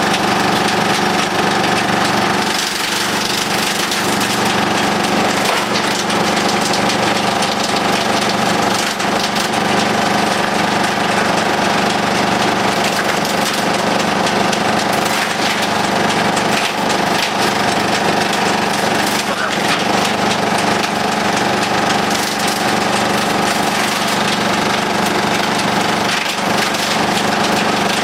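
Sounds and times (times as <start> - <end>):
wood chipper running: 0.0 - 28.0
wood cracking and splintering: 0.0 - 28.0.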